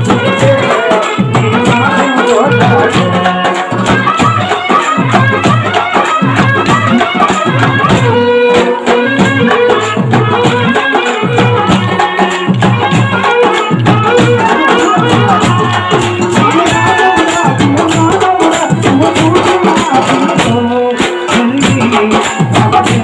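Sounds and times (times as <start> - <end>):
frame drums beating: 0.0 - 23.0.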